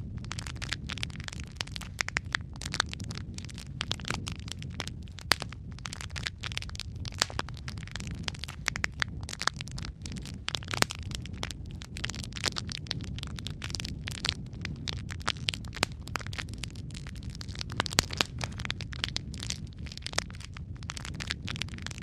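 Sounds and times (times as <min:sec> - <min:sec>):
fire crackling and popping: 0:00.0 - 0:22.0
low rumble of burning: 0:00.0 - 0:22.0.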